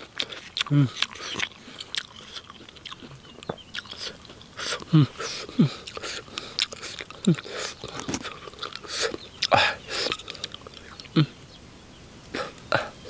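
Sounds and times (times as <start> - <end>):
person chewing and biting: 0.0 - 11.2
mouth clicks and smacks: 0.0 - 11.4.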